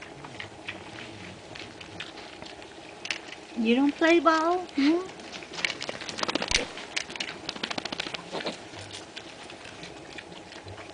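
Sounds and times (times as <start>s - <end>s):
pigs crunching food: 0.0s - 10.9s.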